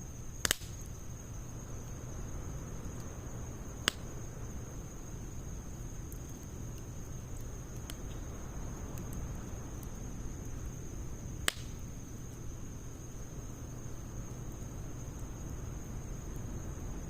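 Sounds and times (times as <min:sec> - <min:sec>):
burning wood popping: 0:00.0 - 0:16.4
campfire burning: 0:00.0 - 0:17.0
faint fire crackles: 0:00.0 - 0:17.0.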